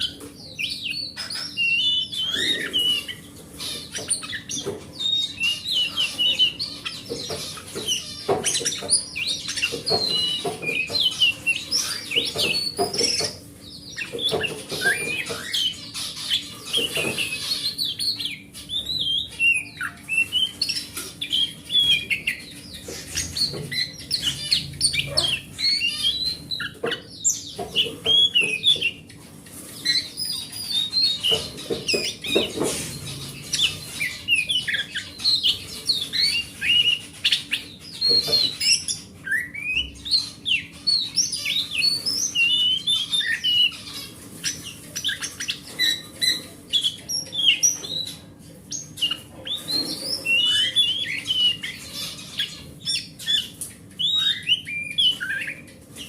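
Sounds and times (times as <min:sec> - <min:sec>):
bird singing whistles and chirps: 0:00.0 - 0:03.2, 0:07.8 - 0:29.1, 0:29.8 - 0:43.8, 0:44.4 - 0:51.8, 0:52.4 - 0:55.6.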